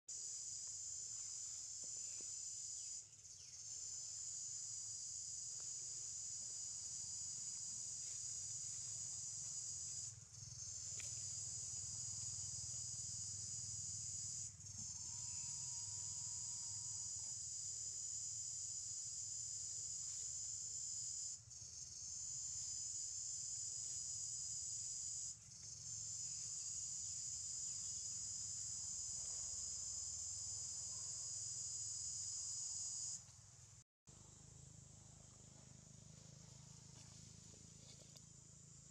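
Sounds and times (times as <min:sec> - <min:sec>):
high-pitched insect drone: 0:00.1 - 0:33.2.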